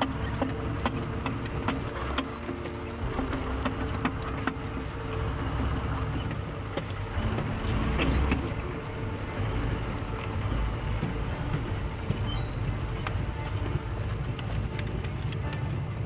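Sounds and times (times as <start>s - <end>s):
tank diesel engine running: 0.0s - 16.0s.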